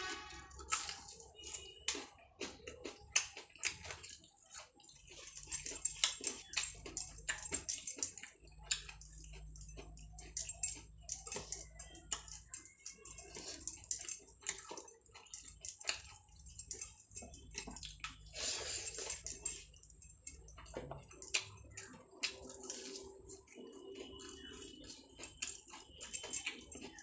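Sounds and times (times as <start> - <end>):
wet chewing and mouth smacks: 0.1 - 27.0.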